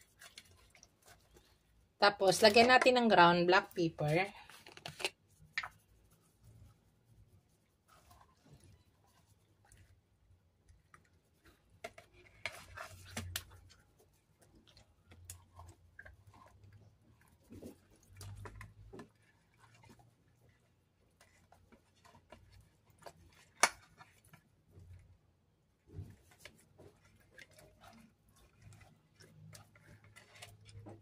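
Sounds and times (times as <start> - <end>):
wet handling of fish: 4.1 - 31.0.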